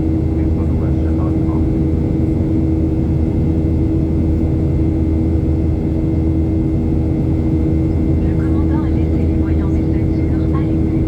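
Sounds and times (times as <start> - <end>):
jet engines humming: 0.0 - 11.0.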